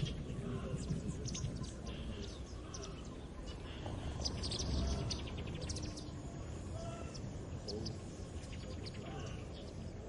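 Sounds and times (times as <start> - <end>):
low outdoor rumble: 0.0 - 10.0
small birds chirping: 0.0 - 10.0.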